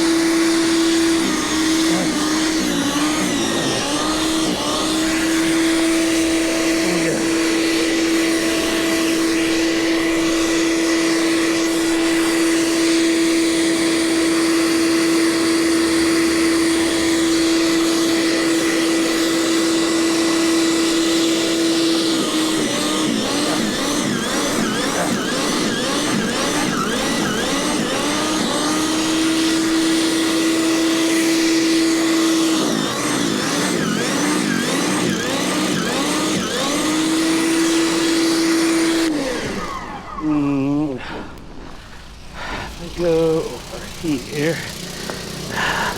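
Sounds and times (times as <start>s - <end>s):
snowblower engine running: 0.0s - 45.9s.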